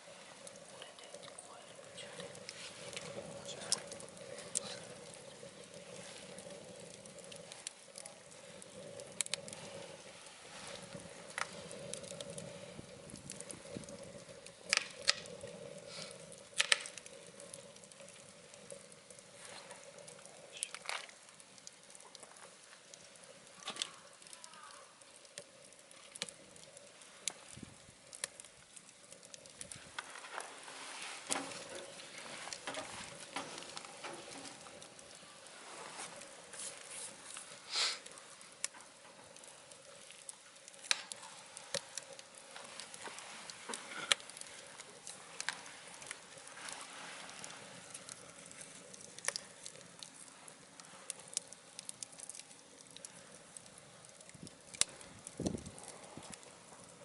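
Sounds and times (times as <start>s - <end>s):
faint steady hum: 0.0s - 57.0s
wood fire crackling: 0.0s - 57.0s.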